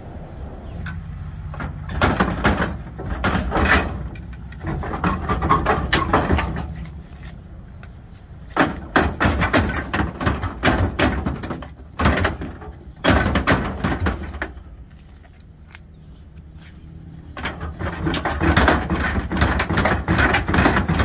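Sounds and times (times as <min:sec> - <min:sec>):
metal bumper clunking and scraping: 0:00.6 - 0:21.0.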